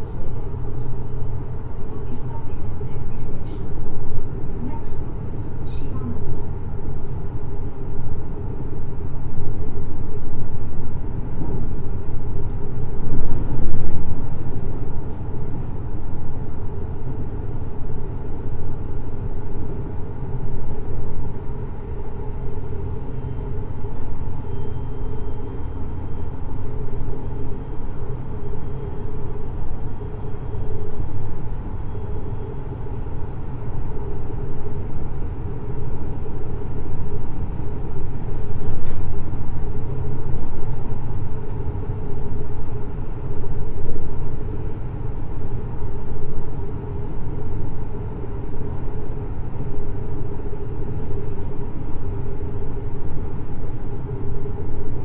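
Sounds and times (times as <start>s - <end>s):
faint high whine: 0.0s - 55.0s
train wheels rumbling on track: 0.0s - 55.0s.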